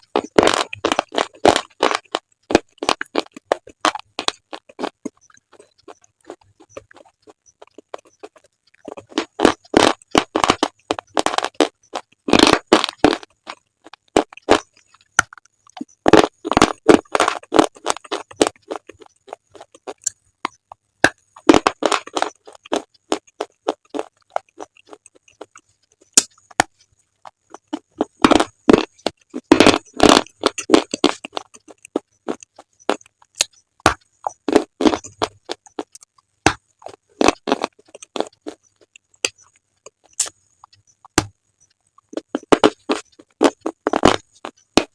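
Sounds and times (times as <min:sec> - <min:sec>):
slate being chewed: 0:00.0 - 0:44.9.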